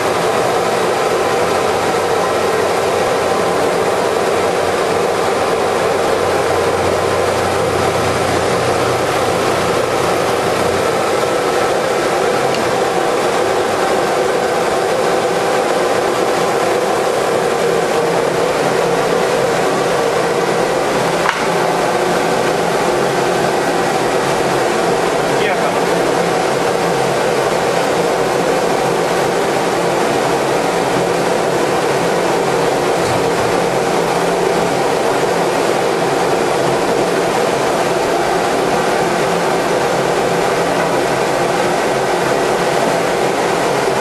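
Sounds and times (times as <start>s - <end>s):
lathe running: 0.0s - 44.0s.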